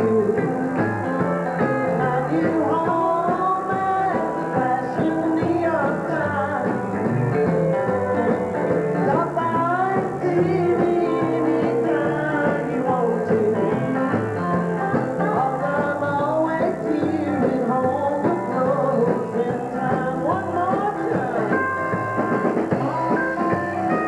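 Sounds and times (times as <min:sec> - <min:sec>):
acoustic guitar: 0:00.0 - 0:24.0
keyboard: 0:00.0 - 0:24.0
live band playing: 0:00.0 - 0:24.0.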